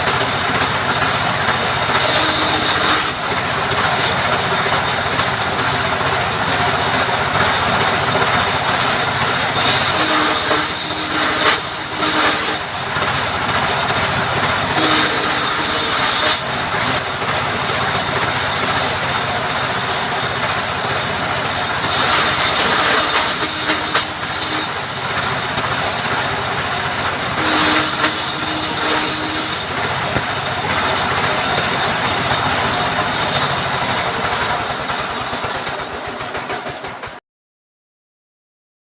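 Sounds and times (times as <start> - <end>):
power saw cutting wood: 0.0 - 36.9.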